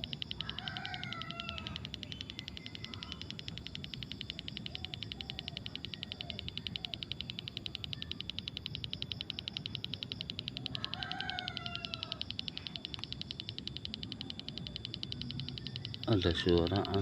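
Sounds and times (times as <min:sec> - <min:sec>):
rapid high-pitched pulsing: 0:00.0 - 0:17.0.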